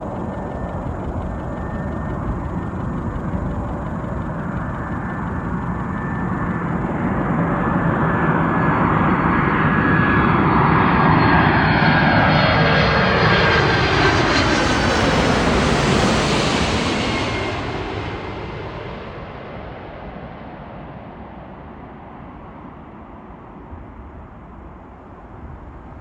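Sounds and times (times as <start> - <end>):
jet airliner engine roar: 0.0 - 26.0.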